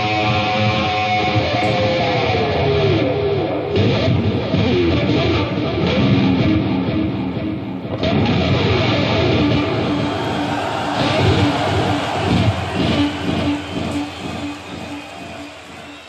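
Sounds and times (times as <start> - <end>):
heavy metal electric guitar solo: 0.0 - 15.9.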